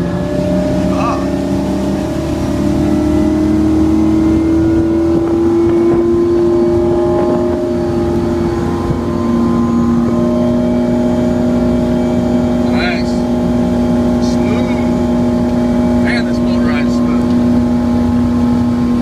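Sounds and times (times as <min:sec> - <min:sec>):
boat engine droning: 0:00.0 - 0:19.0
water and wind rushing: 0:00.0 - 0:19.0.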